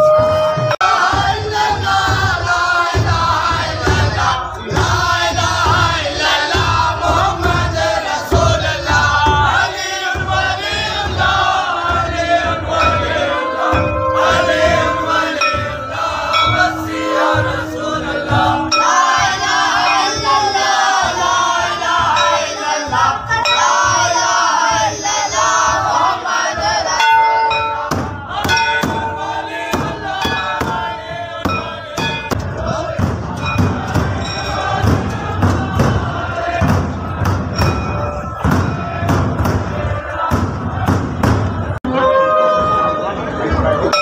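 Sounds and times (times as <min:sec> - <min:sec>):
crowd of men chanting: 0:00.0 - 0:41.8.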